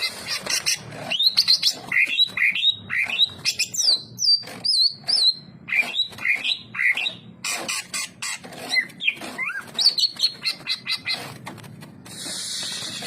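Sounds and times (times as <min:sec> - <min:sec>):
harsh bird chattering: 0:00.0 - 0:11.4.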